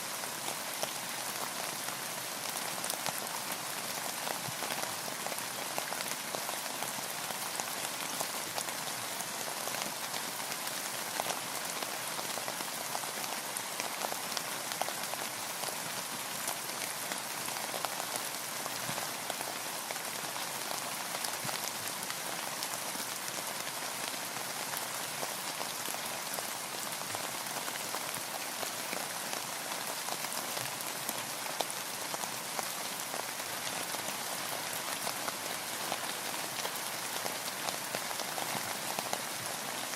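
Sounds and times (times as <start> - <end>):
rain falling on a boat: 0.0 - 39.9.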